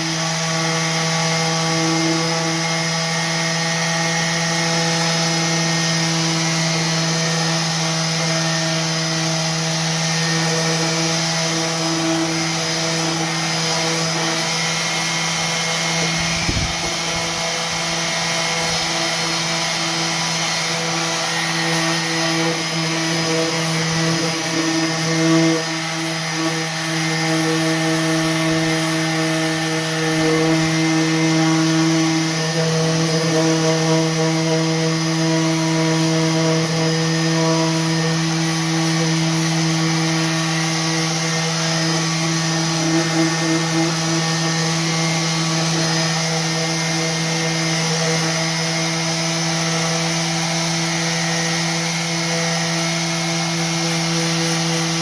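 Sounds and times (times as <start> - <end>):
orbital sander on wood: 0.0 - 55.0.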